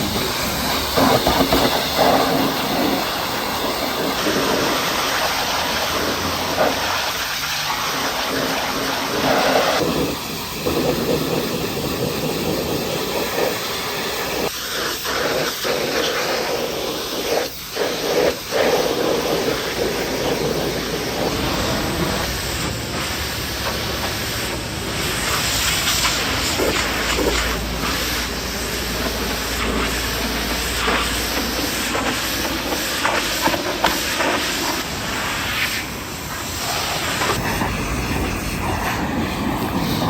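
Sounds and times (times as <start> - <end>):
pressure washer spraying metal: 0.0 - 40.0.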